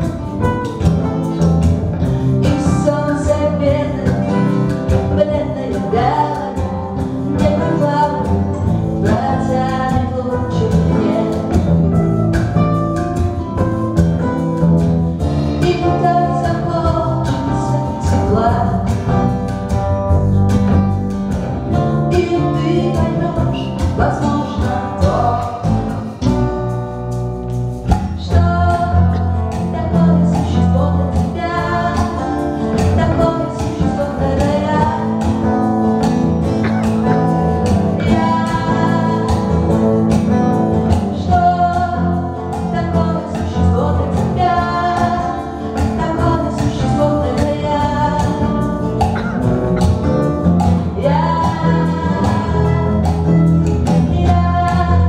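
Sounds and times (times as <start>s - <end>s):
woman singing: 0.0s - 14.4s, 15.2s - 20.0s, 21.7s - 26.7s, 27.9s - 55.0s
acoustic guitars: 0.0s - 55.0s
cajon beat: 0.0s - 55.0s
upright double bass: 0.0s - 55.0s.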